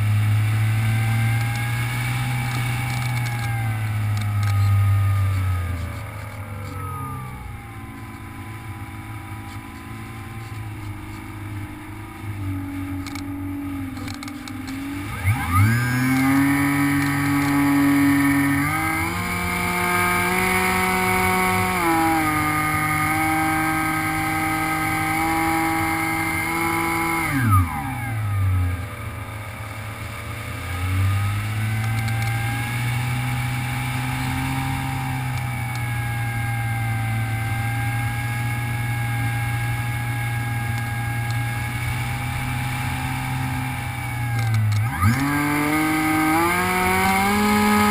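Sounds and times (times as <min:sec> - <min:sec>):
electric model plane motor whining: 0:00.5 - 0:28.9, 0:30.5 - 0:47.9.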